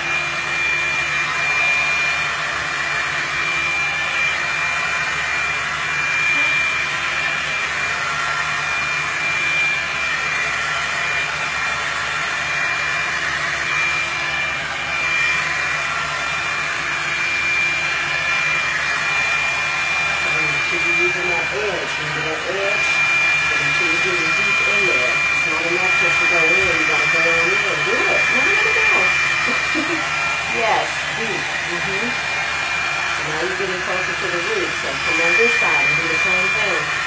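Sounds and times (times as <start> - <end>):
blow dryer brush whining: 0.0 - 37.0.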